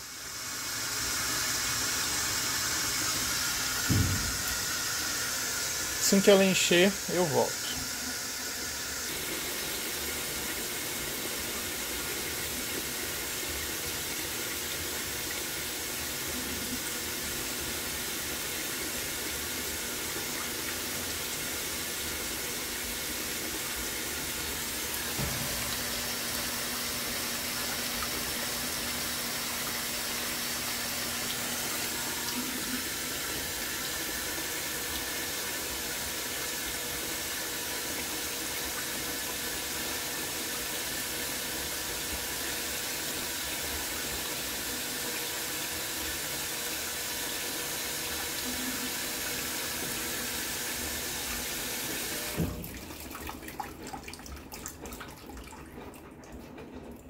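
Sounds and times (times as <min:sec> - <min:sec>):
washing machine filling with water: 0:00.0 - 0:57.0.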